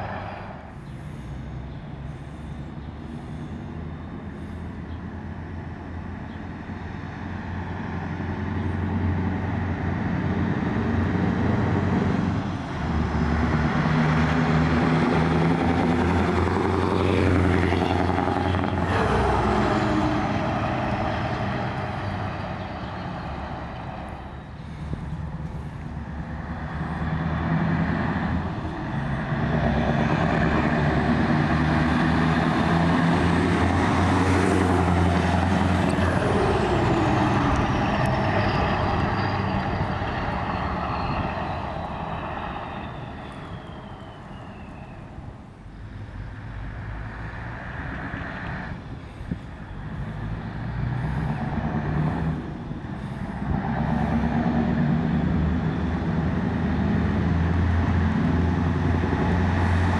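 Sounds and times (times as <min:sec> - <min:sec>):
truck engine driving past: 0:00.0 - 0:59.9.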